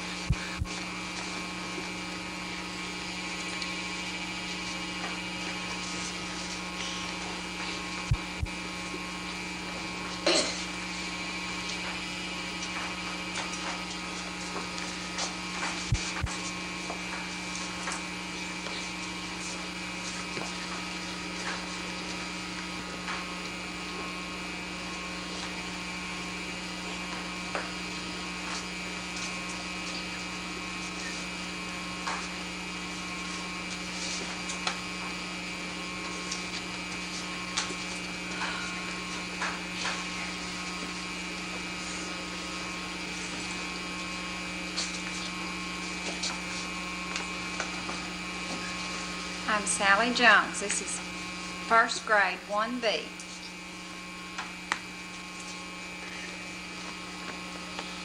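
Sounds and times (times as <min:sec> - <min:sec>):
electrical hum with hiss: 0:00.0 - 0:58.0.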